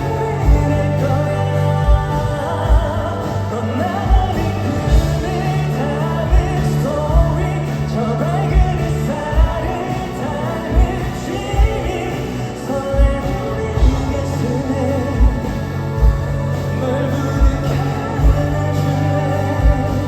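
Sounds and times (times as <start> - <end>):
pop song by a band: 0.0 - 20.0.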